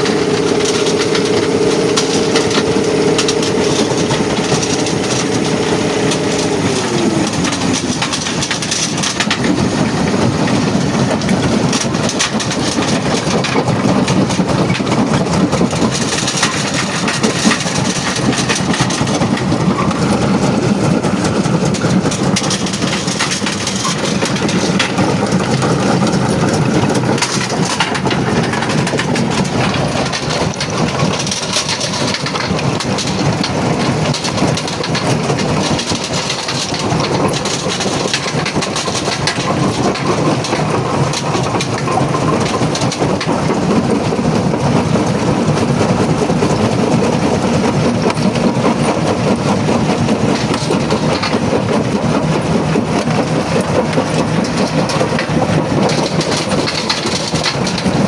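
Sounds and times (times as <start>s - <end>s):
low machine drone: 0.0s - 58.0s.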